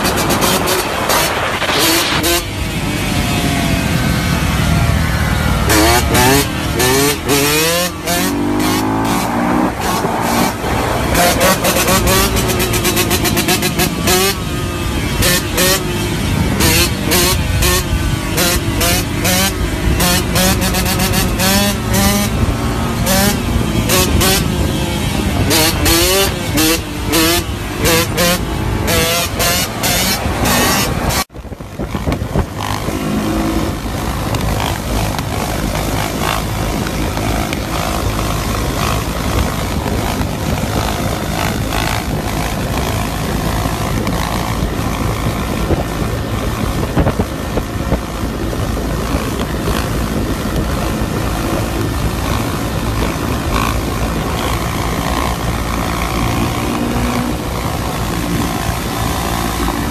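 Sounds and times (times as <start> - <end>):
wind rush on microphone: 0.0 - 7.2, 8.9 - 59.9
dirt bike engine: 0.0 - 59.9.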